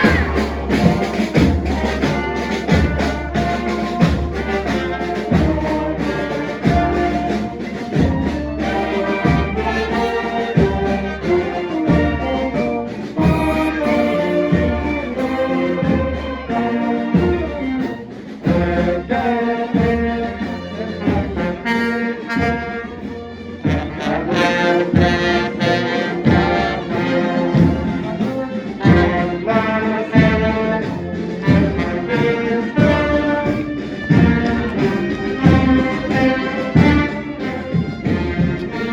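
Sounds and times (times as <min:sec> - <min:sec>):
brass section playing a tune: 0:00.0 - 0:38.9
steady drum beat: 0:00.0 - 0:38.9.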